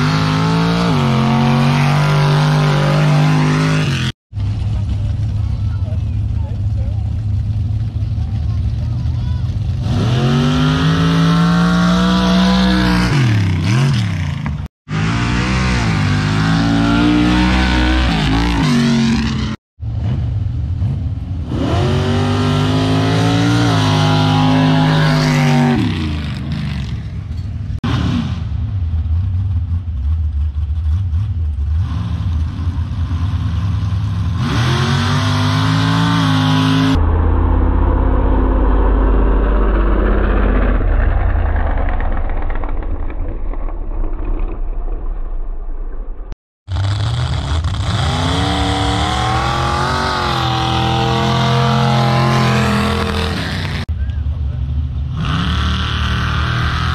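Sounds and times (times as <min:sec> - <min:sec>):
truck engines at full throttle: 0:00.0 - 0:43.2, 0:45.9 - 0:56.9.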